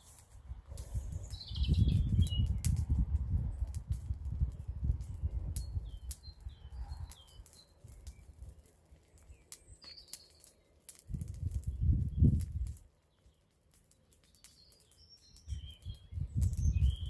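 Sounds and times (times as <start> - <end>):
bonfire crackling and popping: 0.0 - 17.0
small birds chirping: 0.0 - 17.0.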